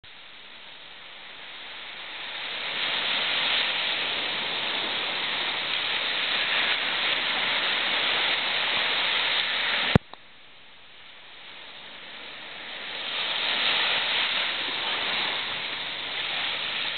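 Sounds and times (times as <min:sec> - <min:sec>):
surf rushing hiss: 0:00.1 - 0:16.9.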